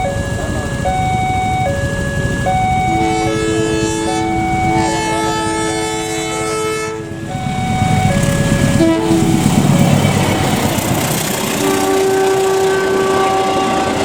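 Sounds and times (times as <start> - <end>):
bus melody horn: 0.0 - 10.0, 11.4 - 14.0
engine and road rumble: 0.0 - 14.0.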